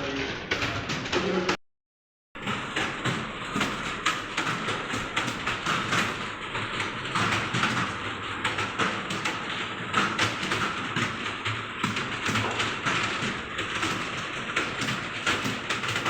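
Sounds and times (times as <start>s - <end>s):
rapid keyboard typing: 0.0s - 1.6s, 2.4s - 16.0s.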